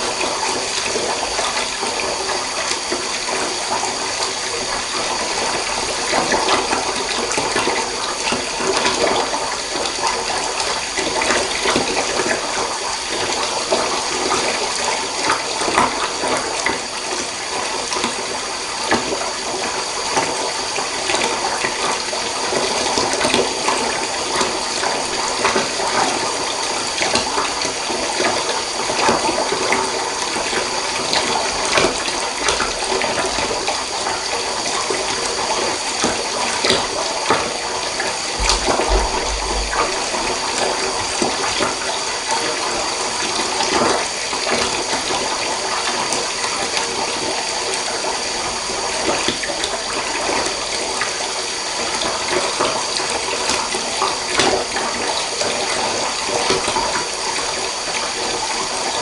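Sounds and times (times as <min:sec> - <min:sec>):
tap water running into bathtub: 0:00.0 - 0:59.0.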